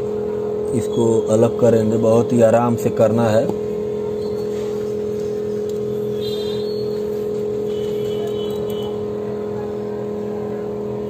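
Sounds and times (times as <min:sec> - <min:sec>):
vacuum pump humming: 0:00.0 - 0:11.0.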